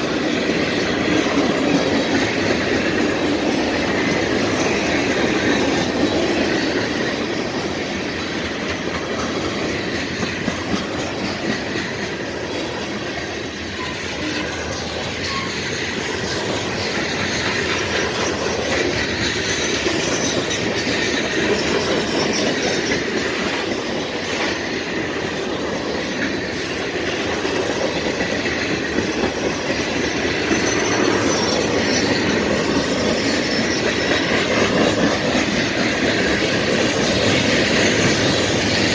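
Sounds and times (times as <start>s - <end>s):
train wheel squeal: 0.0s - 38.9s
wheels clacking over rail joints: 0.0s - 38.9s.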